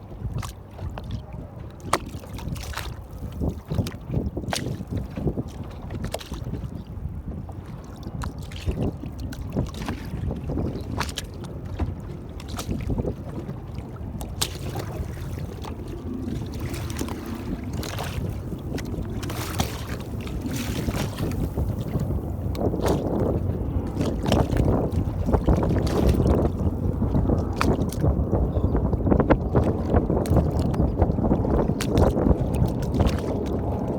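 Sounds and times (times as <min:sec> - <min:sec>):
waves slapping boat hull: 0:00.0 - 0:33.9
wind rumble on microphone: 0:00.0 - 0:33.9.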